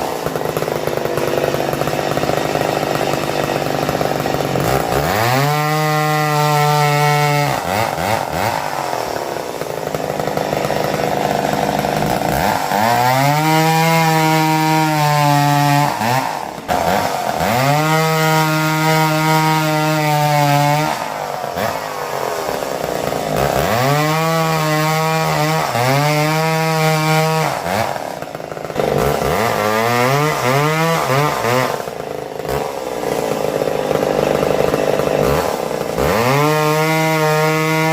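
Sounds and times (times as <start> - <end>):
chainsaw cutting logs: 0.0 - 37.9.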